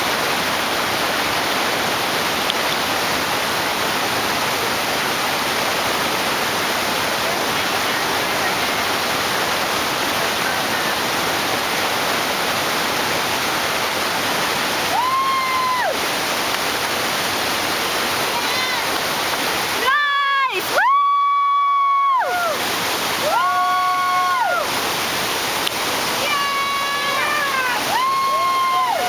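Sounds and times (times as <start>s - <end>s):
whitewater rushing: 0.0s - 29.0s.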